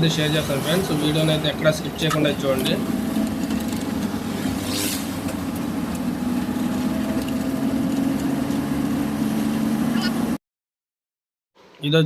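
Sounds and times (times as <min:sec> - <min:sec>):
truck diesel engine running: 0:00.0 - 0:10.4.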